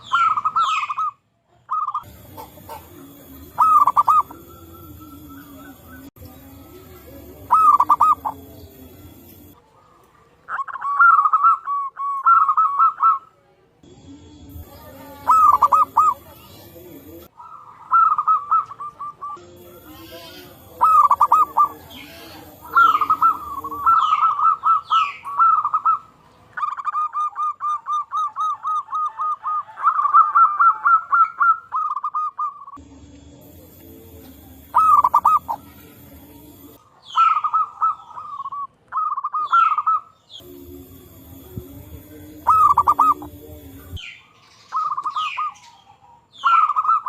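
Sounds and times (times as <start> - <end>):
doves cooing: 0.0 - 13.3, 14.0 - 47.0.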